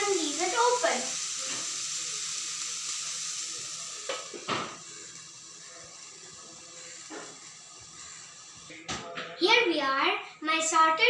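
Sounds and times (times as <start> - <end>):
vegetables sizzling in a pan: 0.0 - 10.8.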